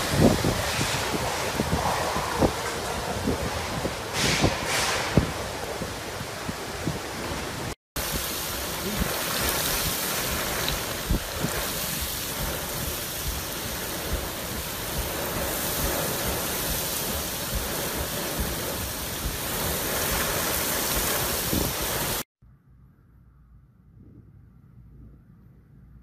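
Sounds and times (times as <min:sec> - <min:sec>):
strong wind gusts: 0:00.0 - 0:22.2
wind buffeting microphone: 0:00.0 - 0:22.2
driving rain: 0:00.0 - 0:22.3.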